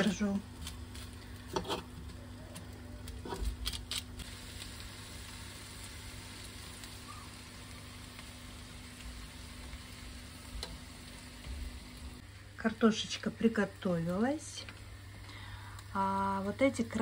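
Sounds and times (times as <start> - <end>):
food sizzling on a baking tray: 0.0 - 17.0.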